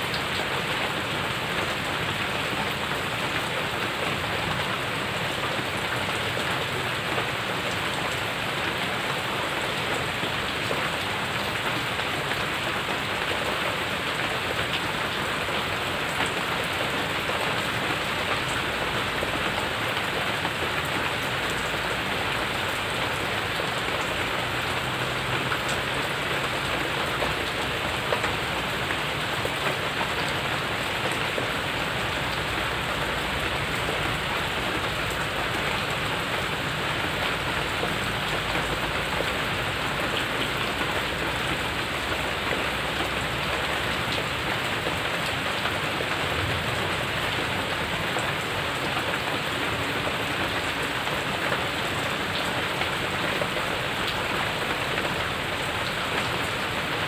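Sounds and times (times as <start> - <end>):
rain drops: 0.0 - 57.0.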